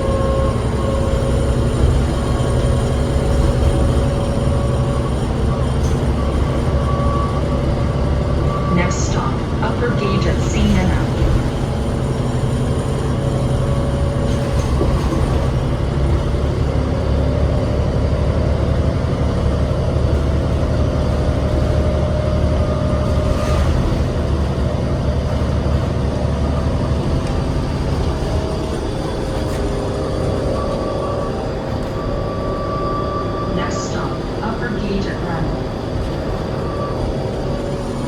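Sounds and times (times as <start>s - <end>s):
bus diesel engine droning: 0.0s - 38.0s
road and cabin rumble: 0.0s - 38.0s.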